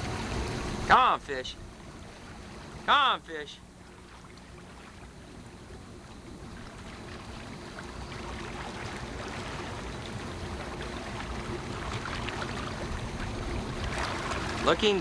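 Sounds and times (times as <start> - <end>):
boat motor running: 0.0 - 15.0
water wash: 0.0 - 15.0
wind: 0.0 - 15.0.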